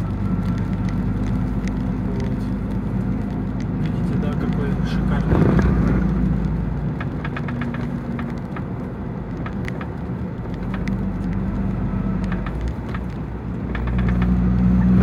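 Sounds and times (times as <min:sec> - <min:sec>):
diesel engine running: 0:00.0 - 0:15.0
road noise: 0:00.0 - 0:15.0.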